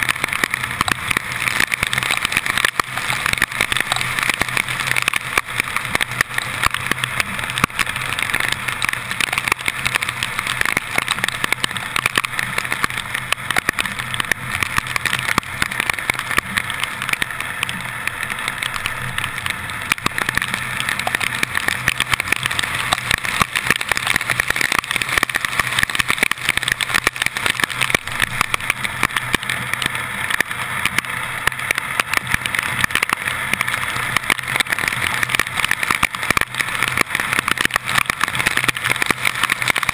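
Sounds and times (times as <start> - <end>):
heavy rain: 0.0 - 39.9
raindrops striking camera: 0.0 - 39.9.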